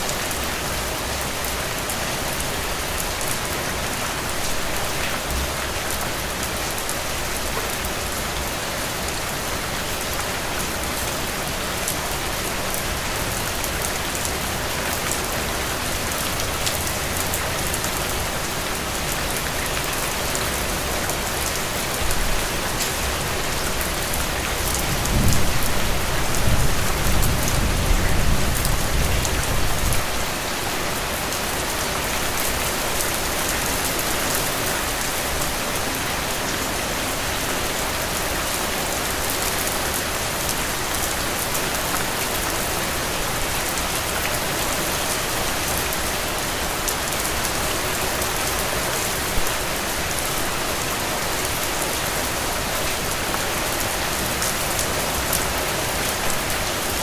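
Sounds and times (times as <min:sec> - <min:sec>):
heavy rain on soil and puddles: 0:00.0 - 0:57.0.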